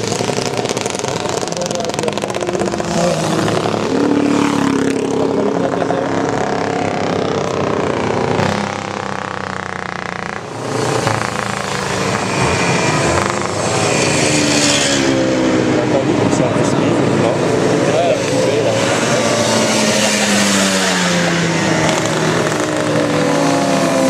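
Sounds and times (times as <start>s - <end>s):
motorcycle engines revving past: 0.0s - 24.0s.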